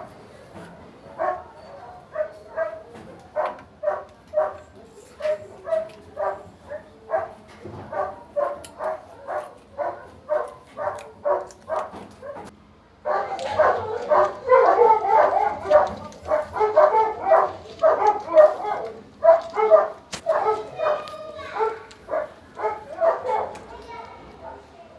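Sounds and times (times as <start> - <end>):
dog barking: 1.1 - 23.8, 24.4 - 24.7.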